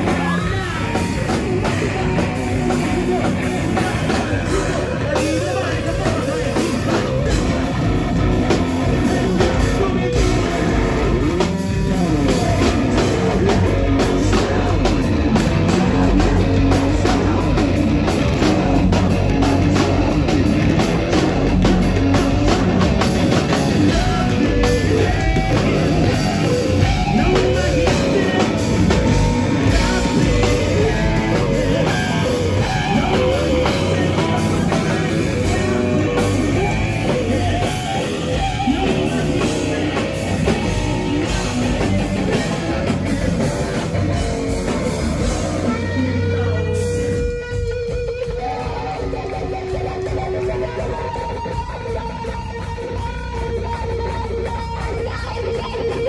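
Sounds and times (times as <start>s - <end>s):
heavy rock band playing: 0.0s - 56.0s
person singing: 0.0s - 56.0s.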